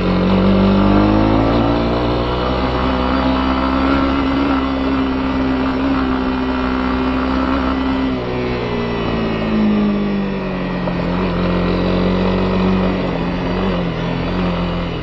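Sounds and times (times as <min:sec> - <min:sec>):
motorcycle engine running: 0:00.0 - 0:15.0
tyres on gravel road: 0:00.0 - 0:15.0.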